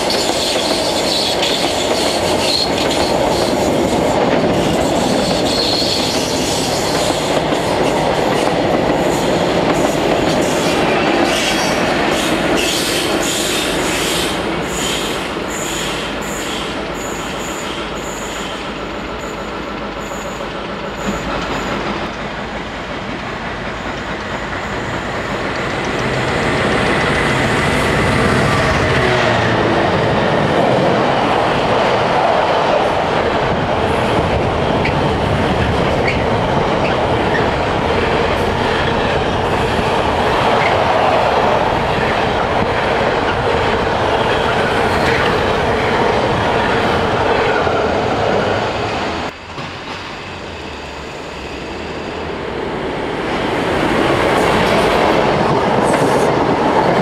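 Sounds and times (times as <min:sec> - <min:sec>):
approaching train rumble: 0:00.0 - 0:57.0
freight train rumbling past: 0:00.0 - 0:57.0.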